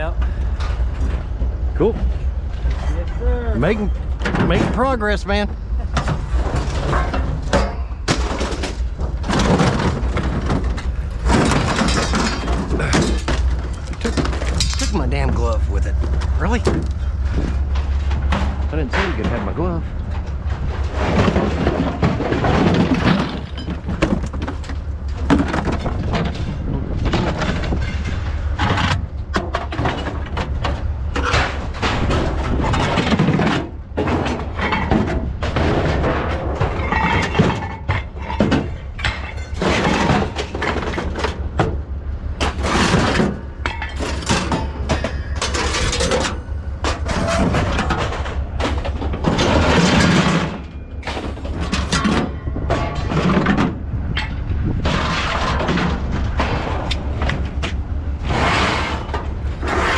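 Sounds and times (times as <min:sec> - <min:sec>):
engine running: 0:00.0 - 0:59.9
scrap metal crashing and clattering: 0:00.0 - 0:59.9.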